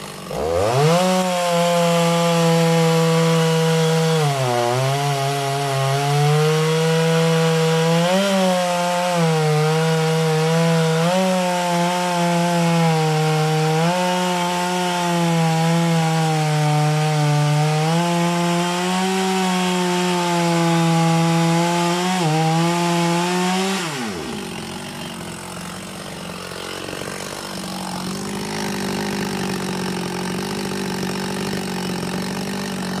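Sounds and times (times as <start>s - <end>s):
chainsaw cutting log: 0.0s - 33.0s.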